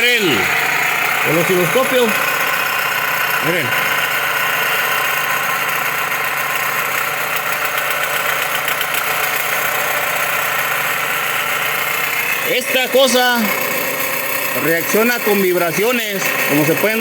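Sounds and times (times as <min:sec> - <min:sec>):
alternator mechanical racket: 0:00.0 - 0:17.0
engine idling: 0:00.0 - 0:17.0.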